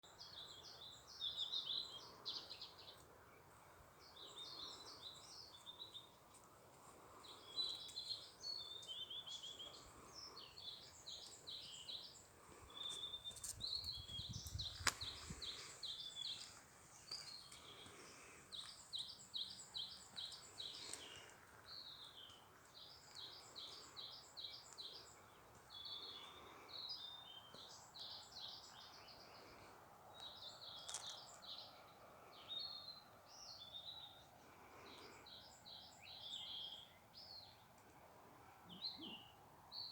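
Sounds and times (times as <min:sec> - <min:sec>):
songbirds singing: 0:00.0 - 0:39.9
soft outdoor hiss: 0:00.1 - 0:39.9.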